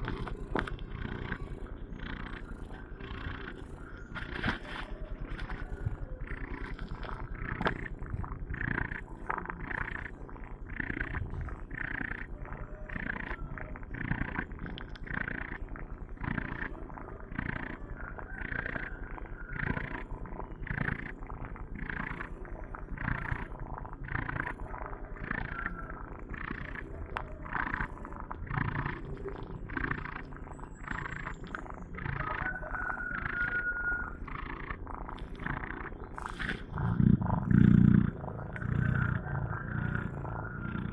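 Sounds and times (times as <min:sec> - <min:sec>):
cat snoring: 0:00.0 - 0:40.9.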